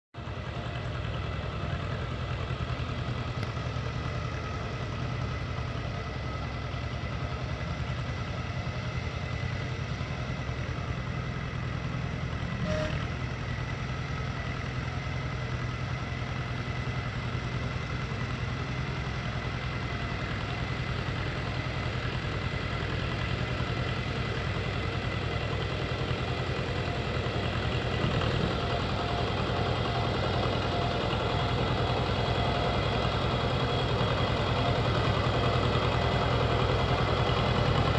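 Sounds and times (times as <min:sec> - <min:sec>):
tractor engine idling: 0:00.2 - 0:37.9.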